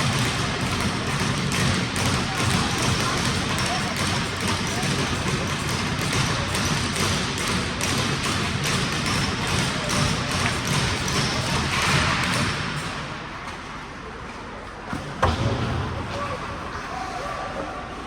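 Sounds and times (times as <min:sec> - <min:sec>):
ice rink noisy wash: 0:00.0 - 0:18.0.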